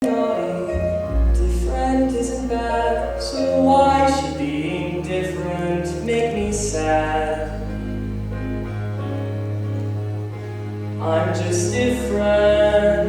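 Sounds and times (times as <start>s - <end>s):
person singing slow song: 0.0s - 9.0s, 10.9s - 13.0s
low bass accompaniment: 0.0s - 13.0s.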